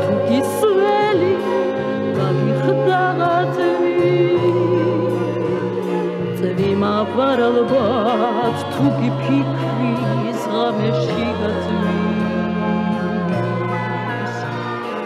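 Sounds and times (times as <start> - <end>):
woman singing with vibrato: 0.0 - 14.6.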